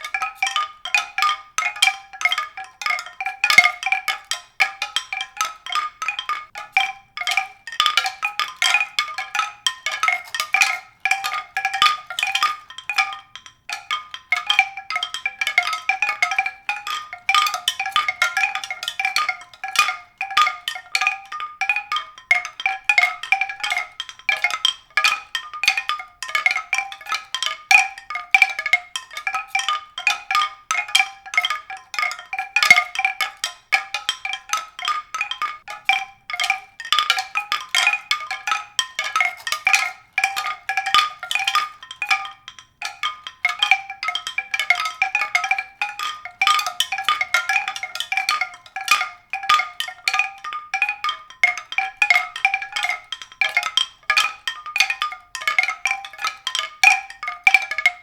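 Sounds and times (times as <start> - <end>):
mallet percussion music: 0.0 - 58.0.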